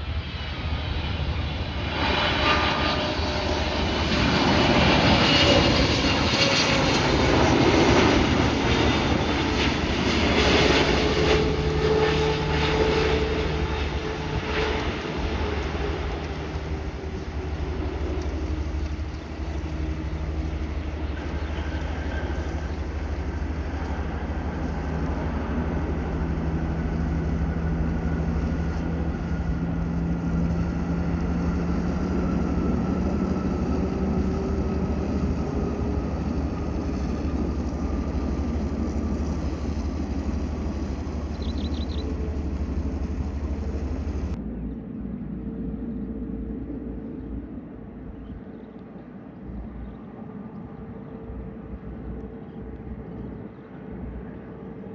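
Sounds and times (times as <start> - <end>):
jet airliner engine rumble and whine: 0.0 - 54.9.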